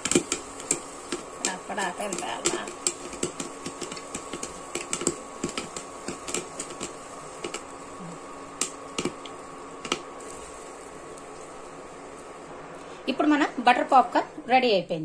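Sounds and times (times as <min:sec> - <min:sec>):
popcorn popping in a pan: 0:00.0 - 0:14.3.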